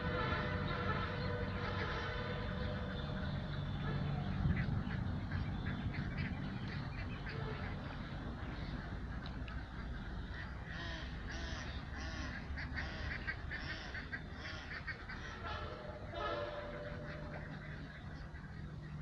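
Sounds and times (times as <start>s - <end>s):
low steady rumble: 0.0s - 19.0s
waterfowl calling: 0.0s - 19.0s.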